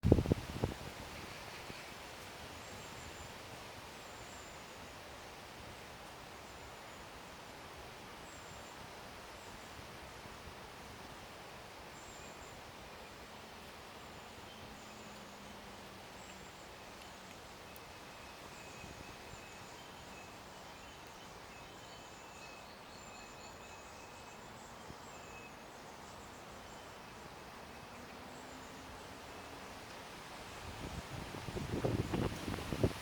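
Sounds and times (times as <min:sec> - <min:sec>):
steady background hiss: 0:00.1 - 0:33.0.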